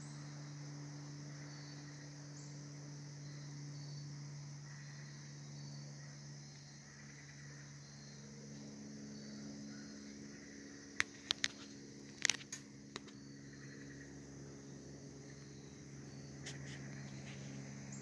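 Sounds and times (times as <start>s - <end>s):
crickets chirping: 0.0s - 18.0s
faint low hum: 0.0s - 18.0s.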